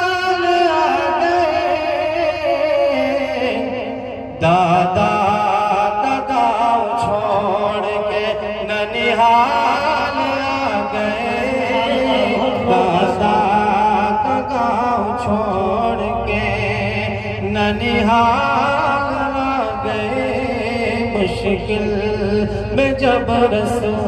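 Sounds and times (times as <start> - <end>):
man singing into a microphone: 0.0 - 24.0.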